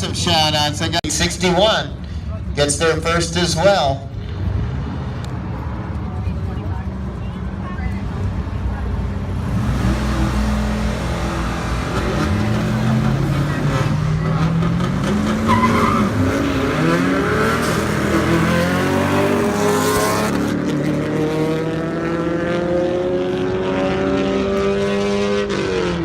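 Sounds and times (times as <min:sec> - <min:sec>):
race car engines accelerating: 0:00.0 - 0:26.0.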